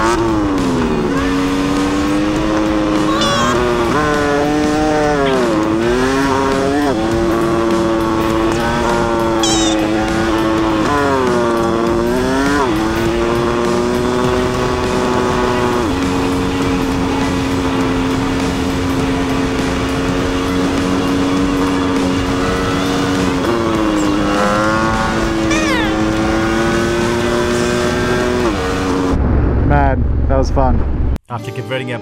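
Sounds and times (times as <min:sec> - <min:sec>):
motorcycle engine at speed: 0:00.0 - 0:29.4.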